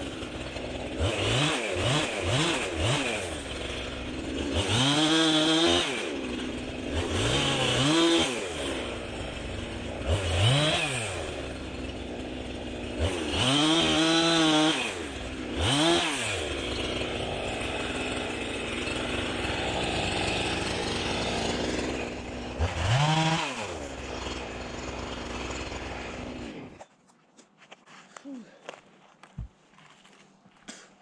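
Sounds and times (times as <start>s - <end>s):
chainsaw revving: 0.0s - 26.8s.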